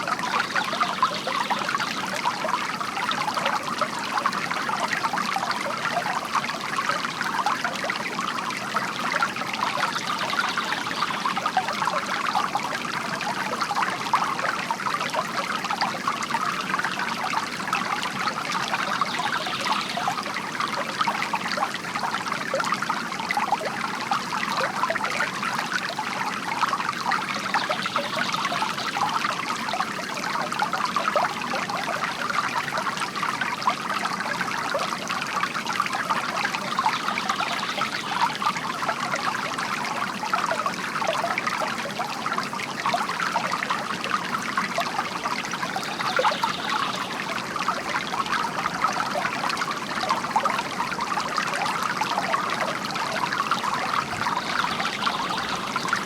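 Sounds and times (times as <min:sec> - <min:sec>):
fountain water trickling: 0:00.0 - 0:56.0.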